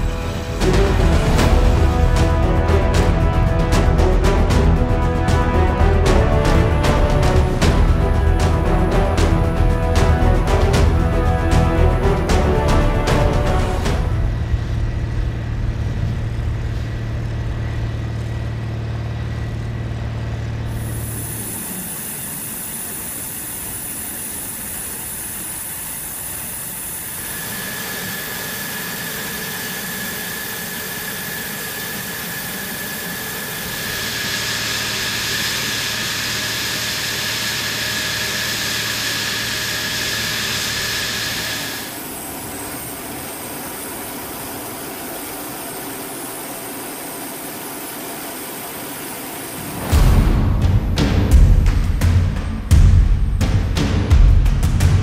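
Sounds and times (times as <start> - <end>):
jet engine whine and hiss: 0.0 - 51.3.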